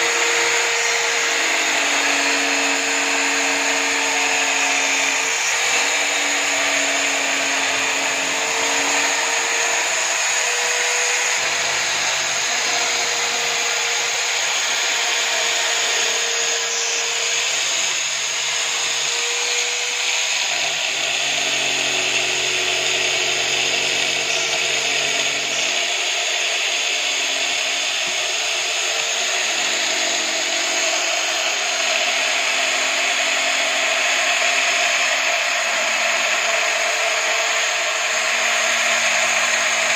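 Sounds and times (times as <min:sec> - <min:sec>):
drill motor whining: 0:00.0 - 0:39.9.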